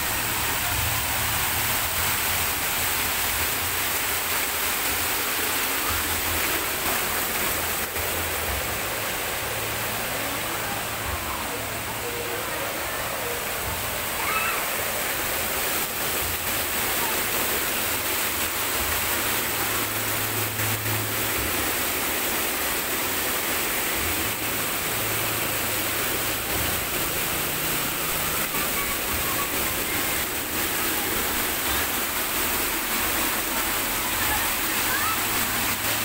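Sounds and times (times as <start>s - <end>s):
water rushing over concrete edge: 0.0s - 36.0s.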